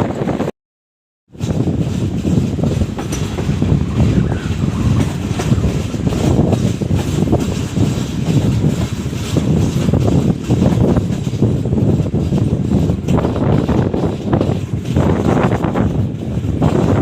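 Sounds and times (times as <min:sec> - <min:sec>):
train coaches rumbling: 0:00.0 - 0:00.5, 0:01.3 - 0:17.0
wheels clattering over rail joints: 0:01.3 - 0:17.0.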